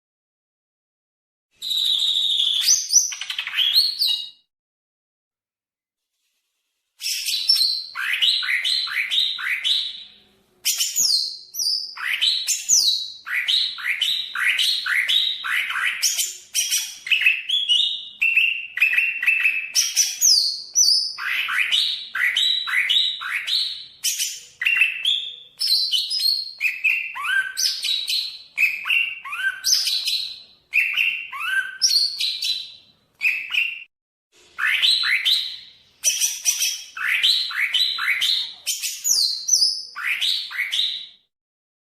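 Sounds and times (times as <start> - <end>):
bird singing whistled notes: 1.6 - 4.5, 7.0 - 33.9, 34.6 - 41.3.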